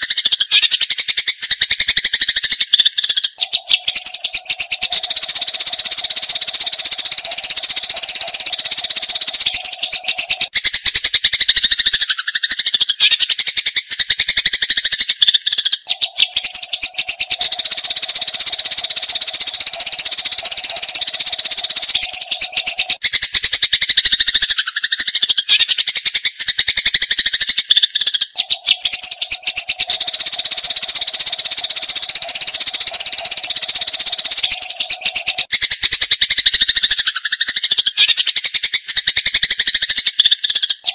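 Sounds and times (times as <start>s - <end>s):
sparrows chirping harshly: 0.0s - 40.9s.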